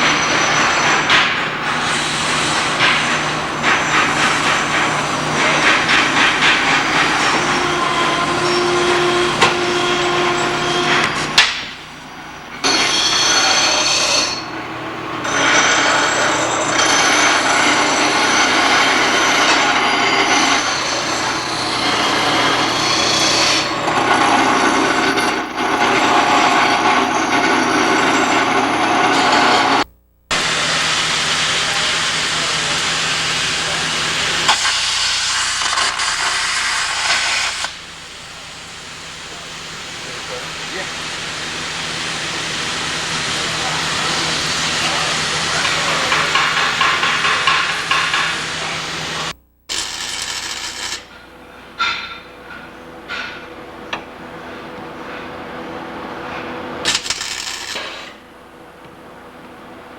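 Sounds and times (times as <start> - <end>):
power tools and metalwork: 0.0 - 52.5, 55.6 - 58.2.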